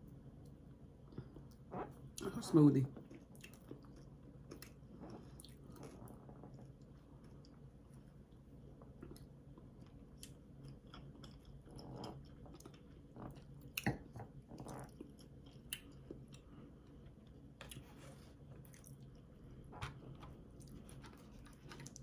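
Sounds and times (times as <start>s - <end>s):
people chewing: 0.4s - 22.0s.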